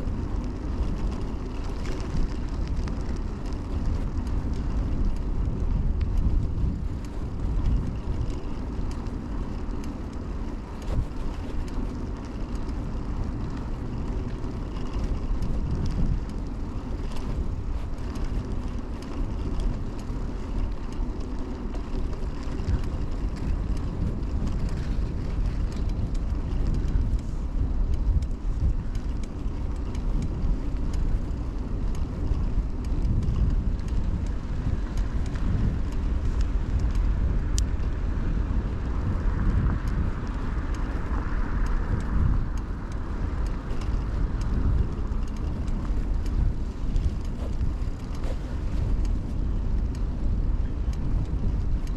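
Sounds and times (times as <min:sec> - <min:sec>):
mountain bike riding rumble: 0:00.0 - 0:51.9
wind on microphone: 0:00.0 - 0:51.9.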